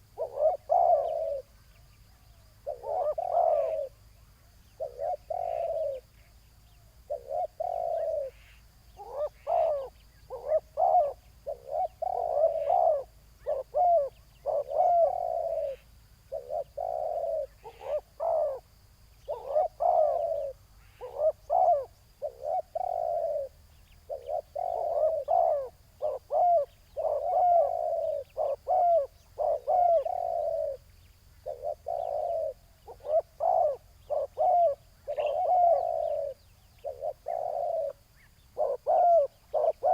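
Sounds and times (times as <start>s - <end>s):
doves cooing: 0.0s - 1.6s, 2.2s - 6.4s, 7.0s - 39.9s.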